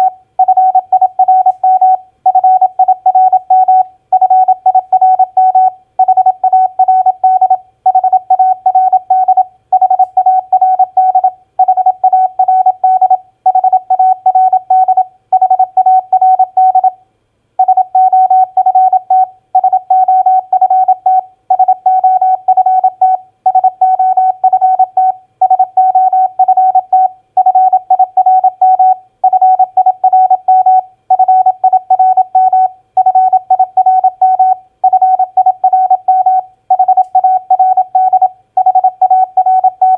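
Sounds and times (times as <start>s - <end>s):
morse code beeps: 0.0s - 16.9s, 17.6s - 39.9s.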